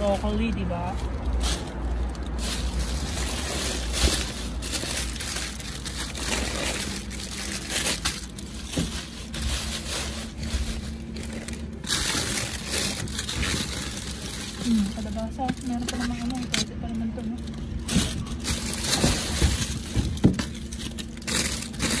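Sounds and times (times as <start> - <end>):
plastic bags rustling and crinkling: 0.0 - 22.0.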